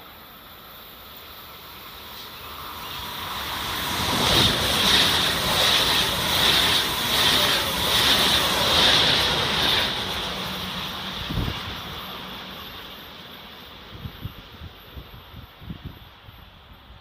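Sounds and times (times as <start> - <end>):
electric train passing at speed: 0.0 - 17.0.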